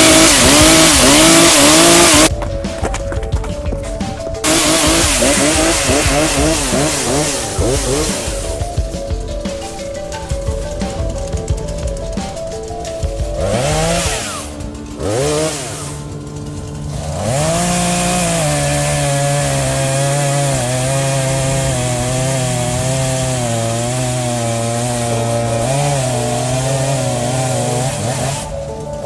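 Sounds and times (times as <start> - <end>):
chainsaw revving and cutting: 0.0 - 2.3, 4.1 - 29.0.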